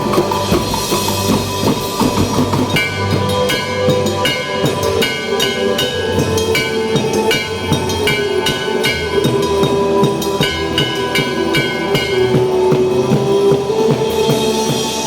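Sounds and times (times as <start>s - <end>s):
music with steady drum beat: 0.0s - 15.0s.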